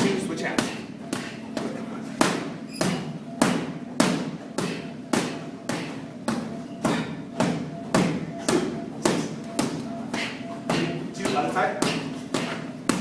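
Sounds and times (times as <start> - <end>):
punches thudding on strike pads: 0.0 - 13.0.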